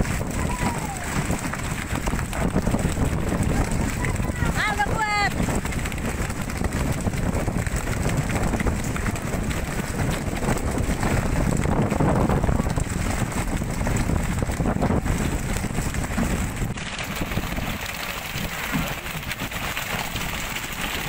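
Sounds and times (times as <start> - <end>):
boat engine running: 0.0 - 21.0
wind buffeting microphone: 0.0 - 21.0.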